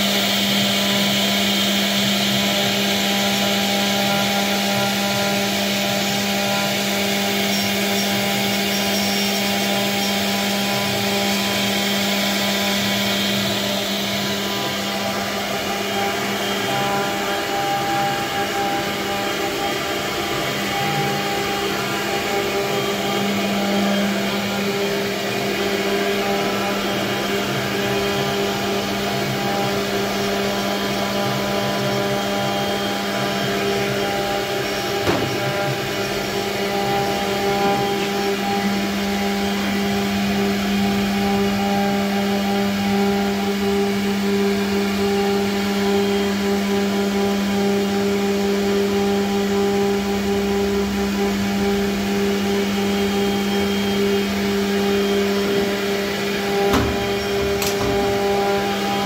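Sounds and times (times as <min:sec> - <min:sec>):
router whirring with low hum: 0:00.0 - 0:59.0.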